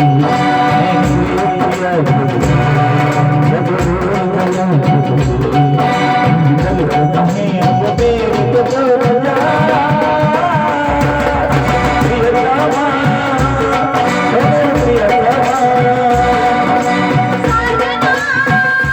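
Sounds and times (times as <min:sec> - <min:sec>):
band accompaniment: 0:00.0 - 0:18.9.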